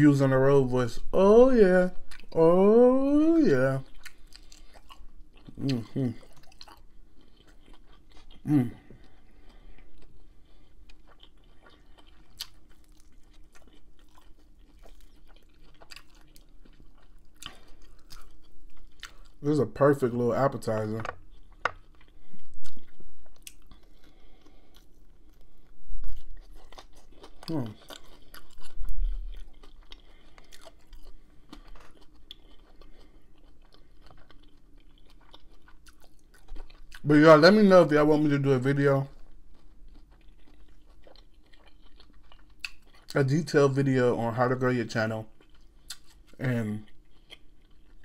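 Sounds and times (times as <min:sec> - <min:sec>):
close-up chewing: 0:02.0 - 0:19.4, 0:20.6 - 0:43.6, 0:44.6 - 0:48.0.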